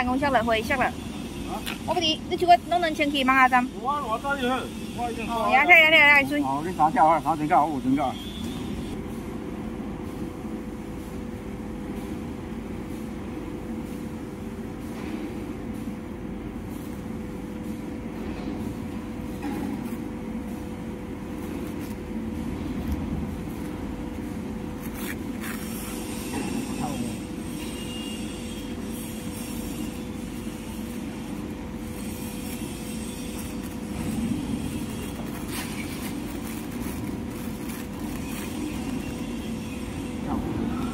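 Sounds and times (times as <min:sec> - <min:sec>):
machine rumbling and humming: 0:00.0 - 0:40.9.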